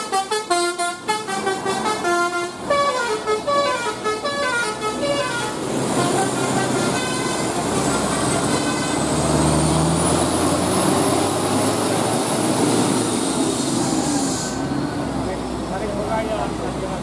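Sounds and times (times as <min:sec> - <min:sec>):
bus driving past: 0:00.0 - 0:17.0
engine and road noise: 0:00.0 - 0:17.0.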